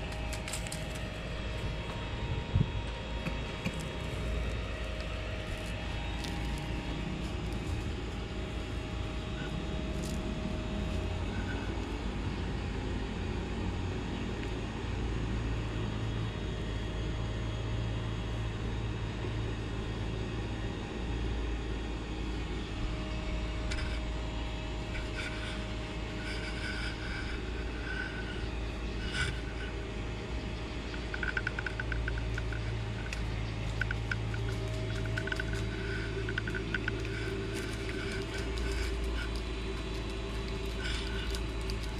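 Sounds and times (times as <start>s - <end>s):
low background rumble: 0.0s - 41.9s.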